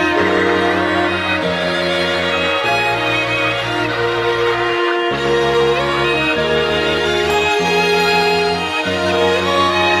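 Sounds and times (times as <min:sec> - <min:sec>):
sustained string chords: 0:00.0 - 0:10.0.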